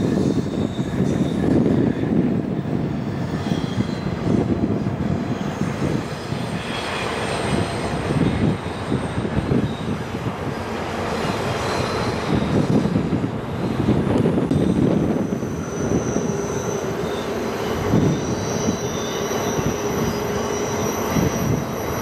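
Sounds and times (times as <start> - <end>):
high-pitched wheel squeals: 0.0 - 2.0, 3.1 - 4.6, 5.2 - 13.8, 14.5 - 22.0
train wheels clattering on rail: 0.0 - 22.0.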